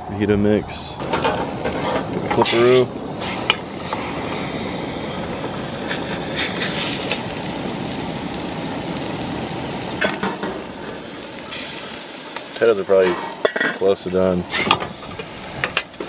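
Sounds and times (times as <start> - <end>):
food sizzling in a pan: 1.0 - 13.8, 14.4 - 16.0
camp stove running: 1.0 - 16.0.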